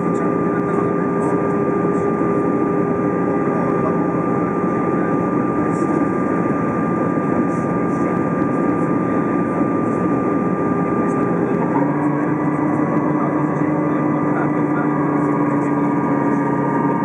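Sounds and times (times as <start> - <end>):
jet engine roar in cabin: 0.0 - 17.0
low hum: 0.0 - 17.0.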